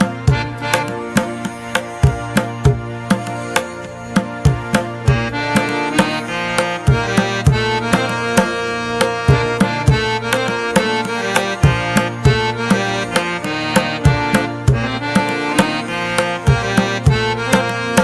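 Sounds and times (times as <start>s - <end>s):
hand drum beat: 0.0s - 18.0s
held melodic notes: 0.0s - 18.0s.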